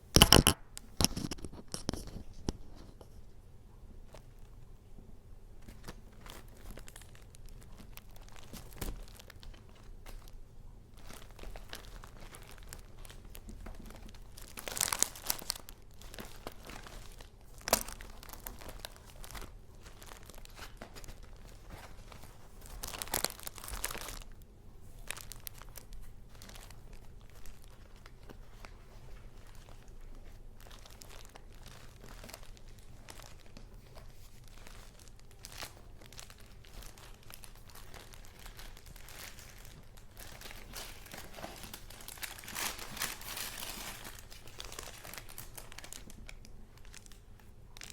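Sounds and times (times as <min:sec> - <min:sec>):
paper crinkling and rustling: 0:00.1 - 0:03.3, 0:05.6 - 0:47.9.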